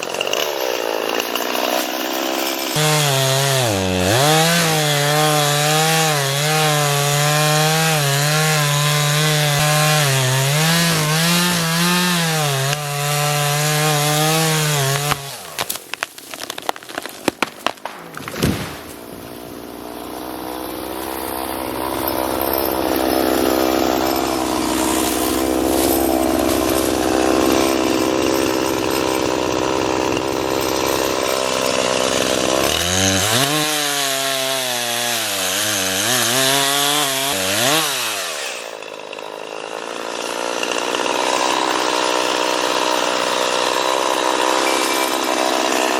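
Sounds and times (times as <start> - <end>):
chainsaw running: 0.0 - 45.9.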